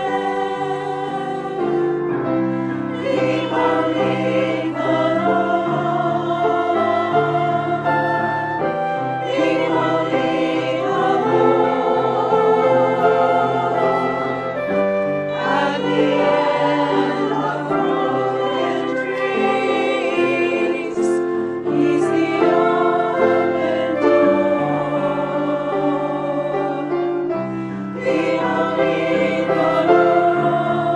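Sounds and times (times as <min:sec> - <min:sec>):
choir singing sacred music: 0:00.0 - 0:30.9.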